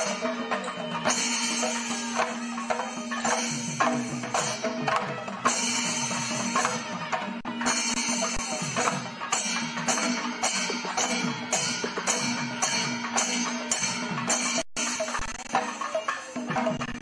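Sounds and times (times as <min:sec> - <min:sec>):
crisp high percussion strikes: 0:00.0 - 0:17.0
drums: 0:00.0 - 0:17.0.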